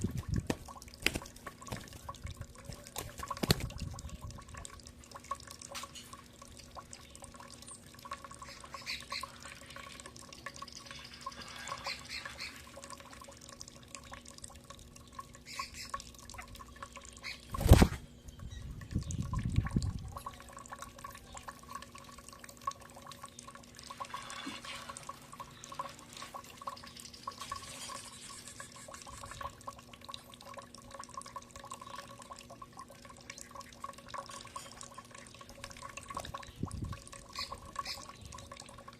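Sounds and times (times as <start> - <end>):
water dripping and trickling: 0.0 - 38.9.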